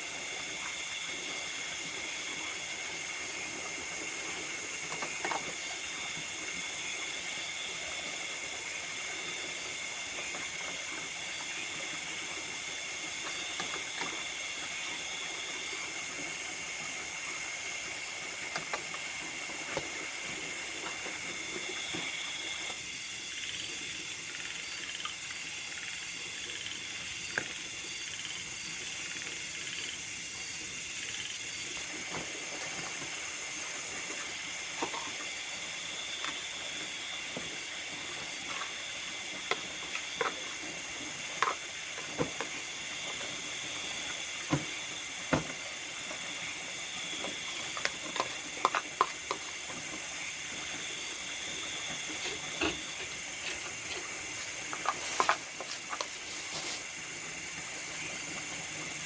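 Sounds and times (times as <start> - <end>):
insects trilling: 0.0 - 59.0
soft rushing hiss: 0.0 - 59.0.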